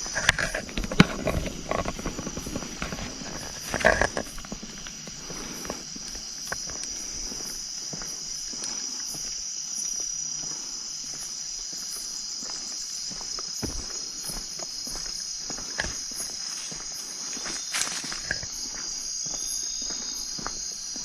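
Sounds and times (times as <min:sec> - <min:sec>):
high insect trill: 0:00.0 - 0:21.0
insect pulsing: 0:00.0 - 0:21.0
soft footsteps: 0:00.0 - 0:21.0.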